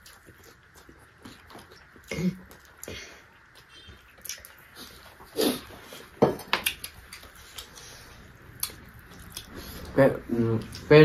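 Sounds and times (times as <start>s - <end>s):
chewing and lip smacks: 0.0s - 10.9s.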